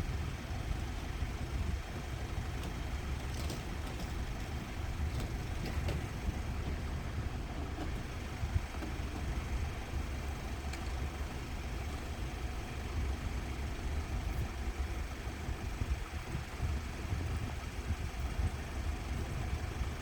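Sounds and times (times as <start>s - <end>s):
vehicle engines idling: 0.0s - 20.0s.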